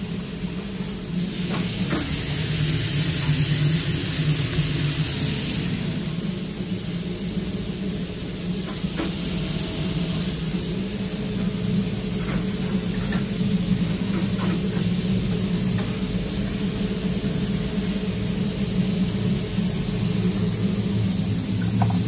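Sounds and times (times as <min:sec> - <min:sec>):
kitchen machinery humming: 0:00.0 - 0:22.0.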